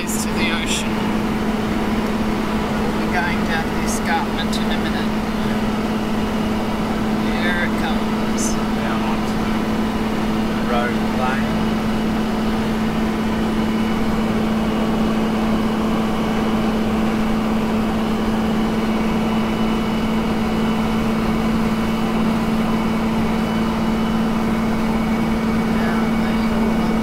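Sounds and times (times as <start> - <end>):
car engine drone inside cabin: 0.0 - 27.0
road noise: 0.0 - 27.0.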